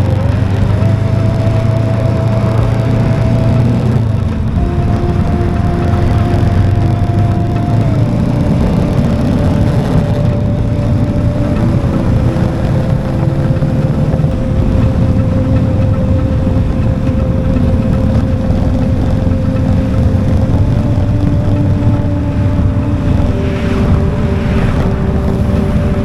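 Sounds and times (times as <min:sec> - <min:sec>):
motorcycle engine cruising: 0:00.0 - 0:26.0
wind rushing over microphone: 0:00.0 - 0:26.0.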